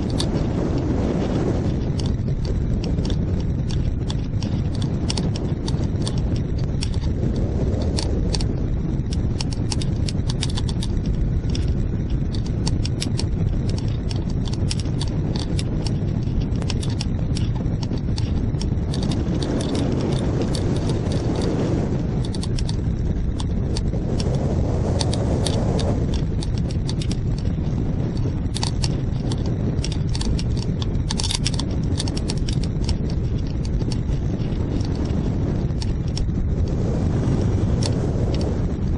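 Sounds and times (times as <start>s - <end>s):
irregular clicking rattle: 0.0s - 38.9s
wind buffeting microphone: 0.0s - 38.9s.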